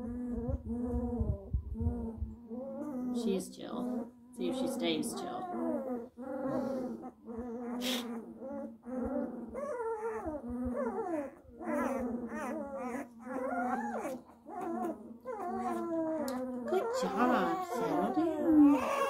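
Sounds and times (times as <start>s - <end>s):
puppy whining and crying: 0.0s - 19.0s.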